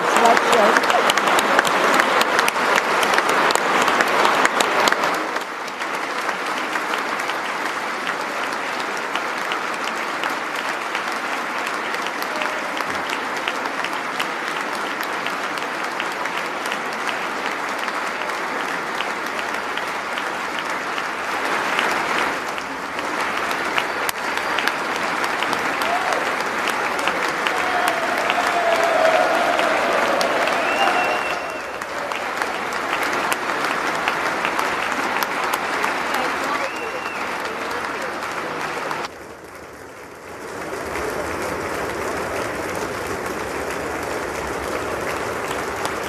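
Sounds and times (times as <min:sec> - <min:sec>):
large audience applauding: 0:00.0 - 0:46.0.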